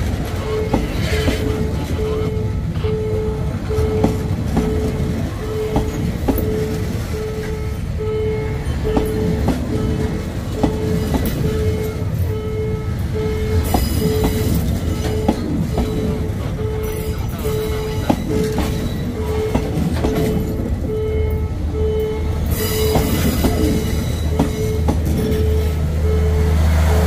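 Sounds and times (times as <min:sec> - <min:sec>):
wheels clacking over rail joints: 0:00.0 - 0:20.9, 0:22.3 - 0:27.0
train coaches rumbling past: 0:00.0 - 0:27.0.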